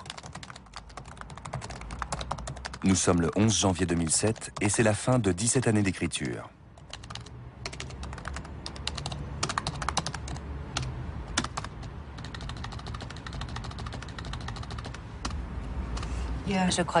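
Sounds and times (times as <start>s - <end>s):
laptop keyboard typing: 0.0s - 15.4s.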